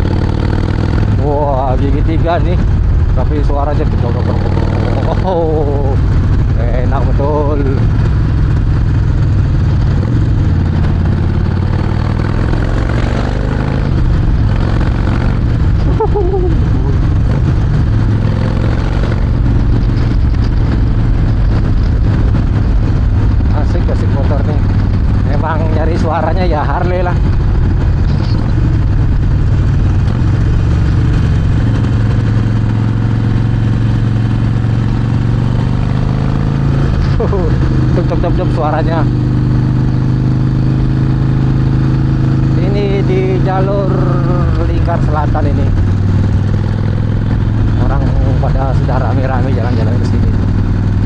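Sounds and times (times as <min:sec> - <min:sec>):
motorcycle engine exhaust note: 0:00.0 - 0:51.0.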